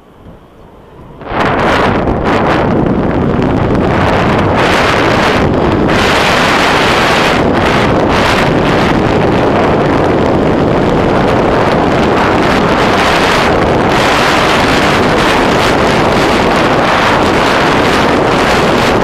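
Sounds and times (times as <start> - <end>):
wind rushing on microphone: 0.0 - 19.0.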